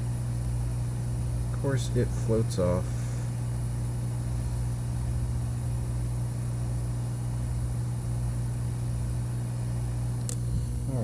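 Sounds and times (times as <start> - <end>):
hot air blower hum and hiss: 0.0 - 11.0.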